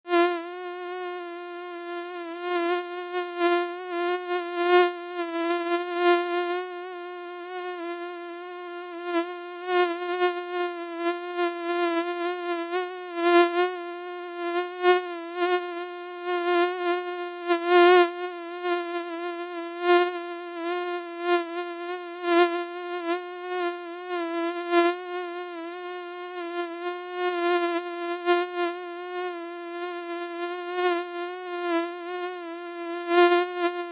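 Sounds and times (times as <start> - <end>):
mosquito whine: 0.1 - 33.9.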